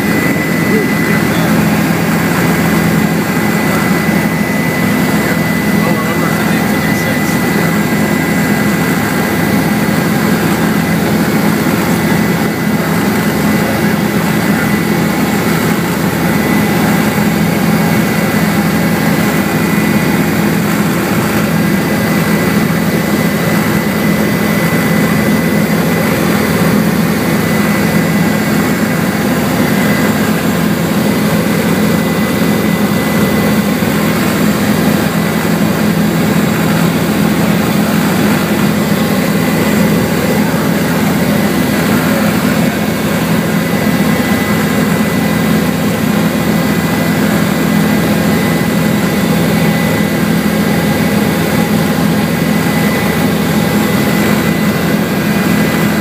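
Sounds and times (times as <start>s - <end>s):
helicopter engine drone: 0.0s - 56.0s
high turbine whine: 0.0s - 56.0s.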